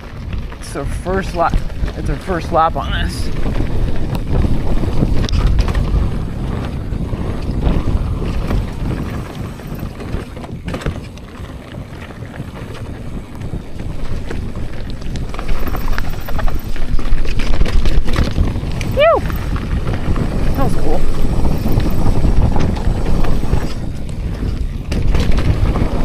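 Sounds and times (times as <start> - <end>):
bike rattles and knocks: 0.0 - 26.0
tyres rolling on dirt: 0.0 - 26.0
wind rumbling on microphone: 0.0 - 26.0.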